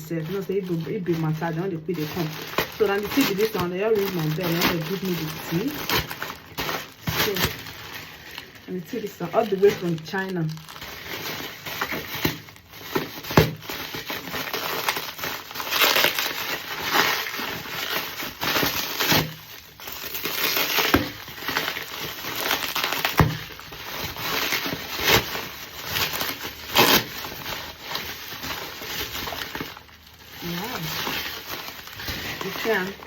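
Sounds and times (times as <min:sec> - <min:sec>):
packaging crinkling and rustling: 0:00.0 - 0:33.0.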